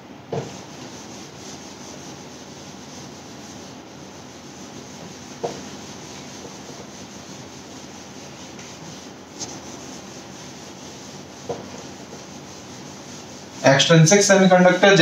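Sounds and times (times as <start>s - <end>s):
eraser rubbing on whiteboard: 0.3s - 13.9s.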